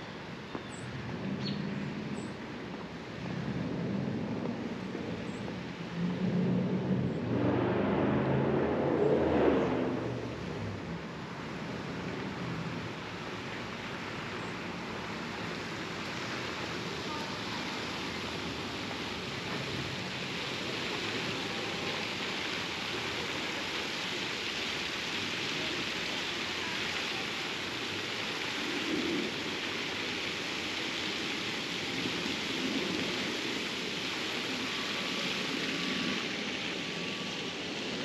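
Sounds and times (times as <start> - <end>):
rushing water: 0.0 - 38.0.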